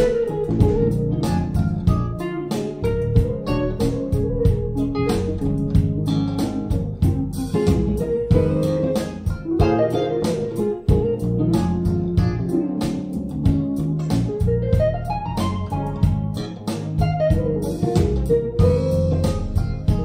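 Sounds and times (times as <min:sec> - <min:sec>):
plucked-string music with deep bass: 0:00.0 - 0:20.0.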